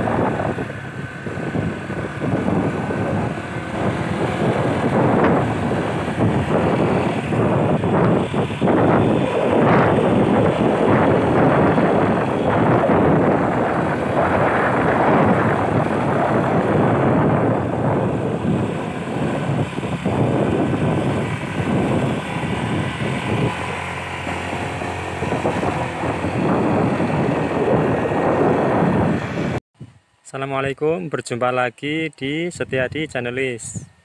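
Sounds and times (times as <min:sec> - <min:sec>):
motorcycle engine: 0:00.0 - 0:29.6
wind noise: 0:00.0 - 0:30.2, 0:32.5 - 0:34.0.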